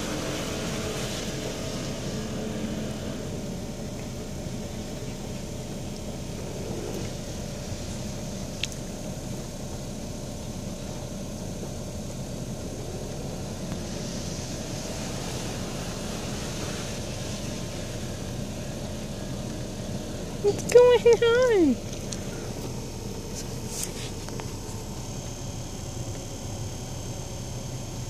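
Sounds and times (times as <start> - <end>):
car engine idling: 0.0 - 28.0
water spray hissing on car: 0.0 - 28.0.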